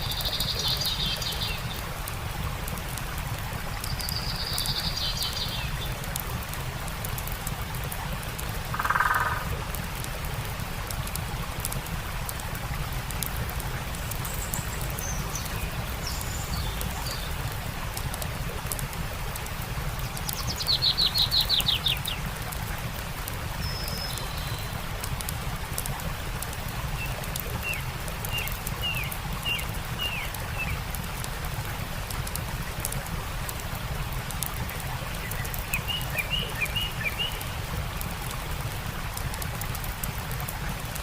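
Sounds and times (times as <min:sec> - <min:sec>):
faint campfire crackling: 0:00.0 - 0:41.0.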